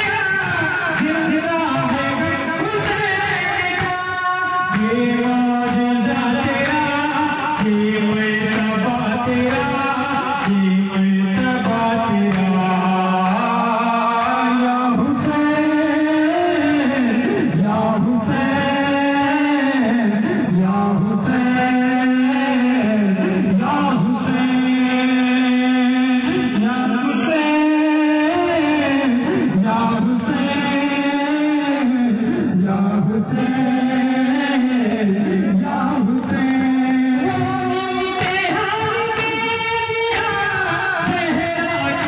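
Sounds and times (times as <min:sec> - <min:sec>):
man chanting into a microphone: 0:00.0 - 0:42.0.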